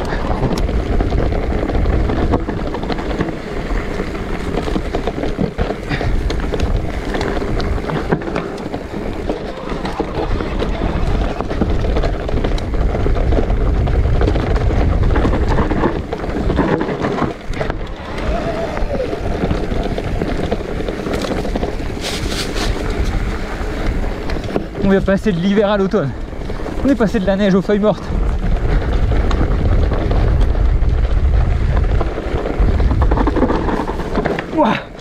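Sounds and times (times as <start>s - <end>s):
small clicks and rattles: 0.0s - 35.0s
tyres rolling over dirt and stones: 0.0s - 35.0s
wind rushing over microphone: 0.0s - 35.0s.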